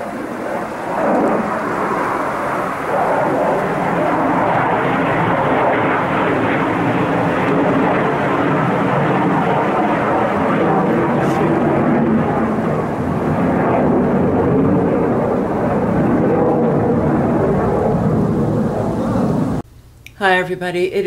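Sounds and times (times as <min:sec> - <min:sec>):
jet roar overhead: 0:00.0 - 0:19.6.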